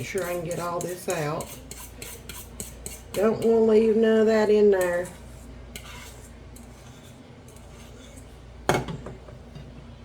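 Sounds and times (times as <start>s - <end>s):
utensil scraping a dish: 0.0s - 8.9s.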